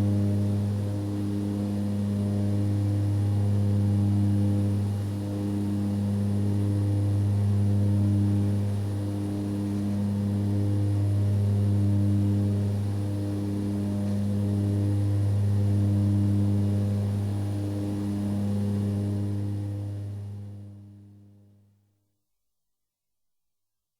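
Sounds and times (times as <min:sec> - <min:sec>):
aircraft engine drone: 0:00.0 - 0:20.7.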